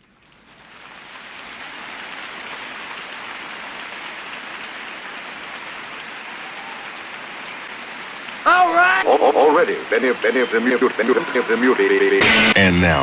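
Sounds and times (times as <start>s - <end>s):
rain-like noise hiss: 0.0s - 13.0s.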